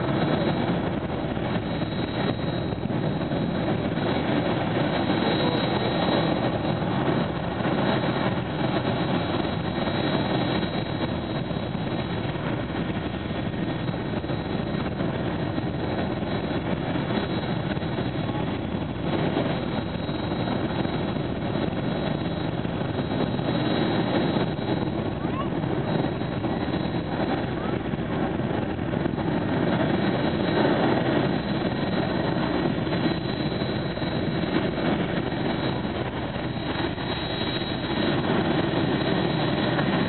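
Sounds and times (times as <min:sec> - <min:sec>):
jet engine running: 0:00.0 - 0:40.0.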